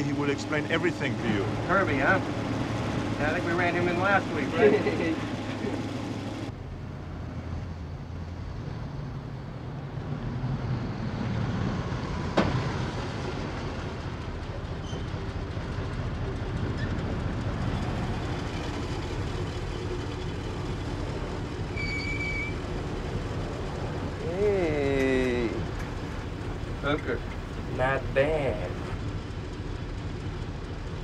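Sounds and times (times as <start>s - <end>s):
engine rumble: 0.0s - 31.0s
tyres on wet road: 0.0s - 31.0s.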